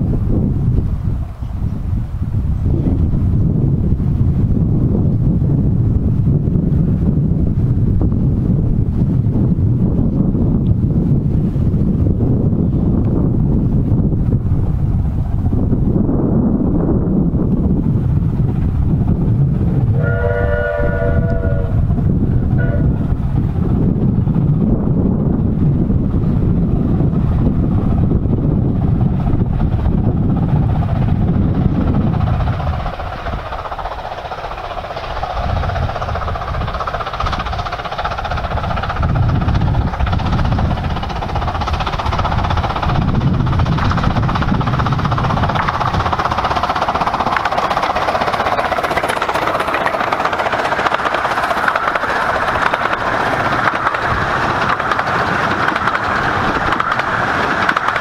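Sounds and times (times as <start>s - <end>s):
steam train passing: 0.0s - 58.0s
wind buffeting microphone: 0.0s - 58.0s.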